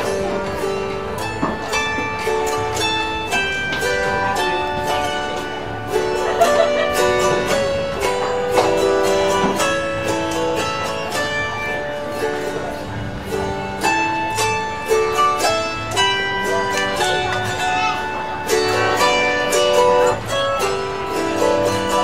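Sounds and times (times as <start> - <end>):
autoharp melody: 0.0 - 22.0.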